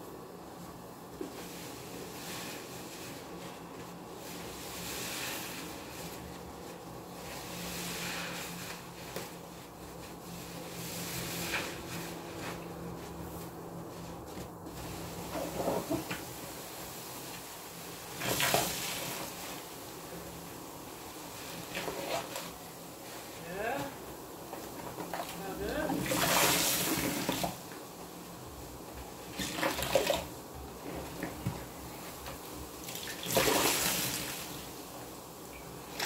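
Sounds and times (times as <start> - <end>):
soapy sponges being squeezed: 0.6 - 20.4, 21.0 - 23.9, 24.6 - 27.7, 28.9 - 32.2, 32.8 - 34.9.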